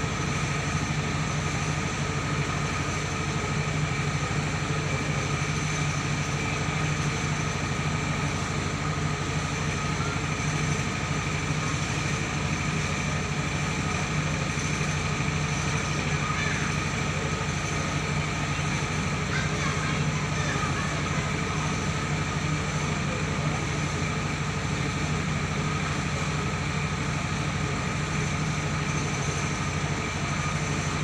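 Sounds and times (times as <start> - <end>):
engine hum: 0.0 - 31.0
steady high whine: 0.0 - 31.0.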